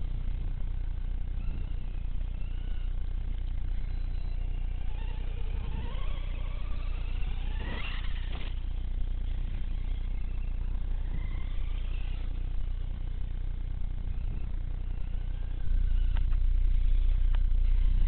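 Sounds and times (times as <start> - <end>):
electric motor whining: 0.0 - 18.0
steady low rumble: 0.0 - 18.0.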